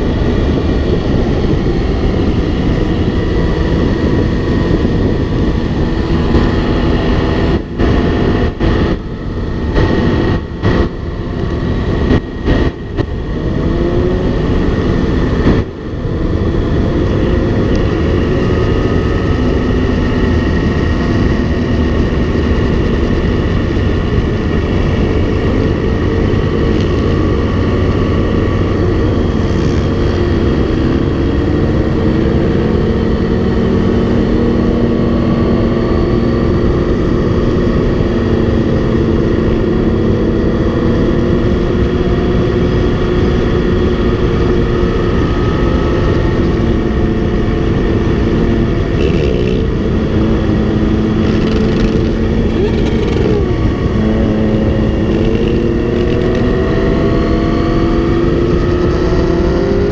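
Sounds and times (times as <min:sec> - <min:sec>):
heavy wind rush: 0:00.0 - 0:59.9
motorcycles running at speed: 0:00.0 - 0:59.9.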